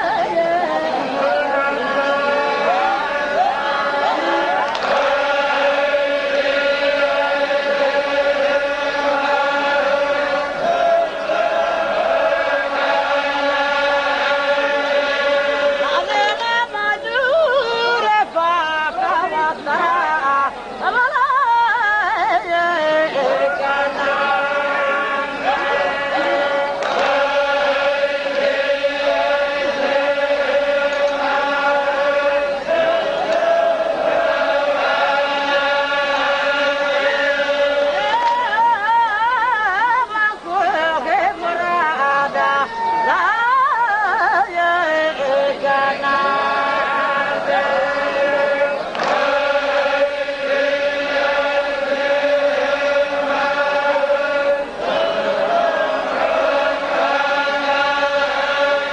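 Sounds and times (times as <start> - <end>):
devotional chanting on held note: 0.0 - 58.9.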